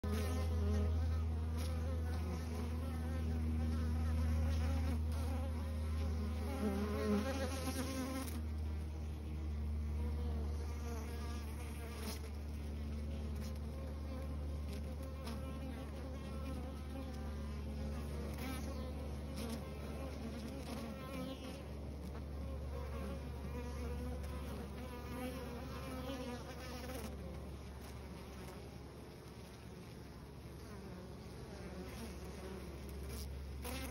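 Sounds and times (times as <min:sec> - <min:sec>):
bees buzzing: 0:00.1 - 0:28.9
whine of single bees: 0:00.1 - 0:33.9.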